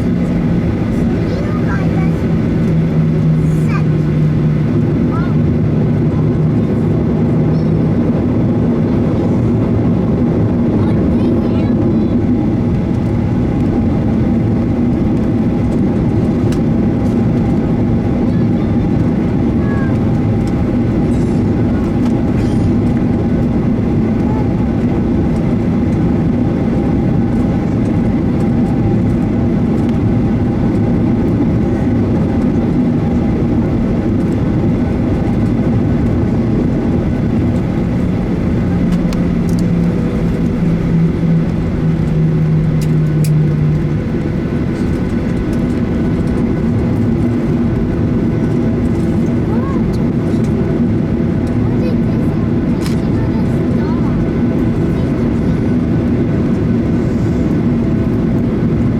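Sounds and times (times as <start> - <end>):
jet engines running: 0.0 - 58.9
low hum: 0.0 - 58.9
rumble of airframe and wheels: 0.0 - 58.9.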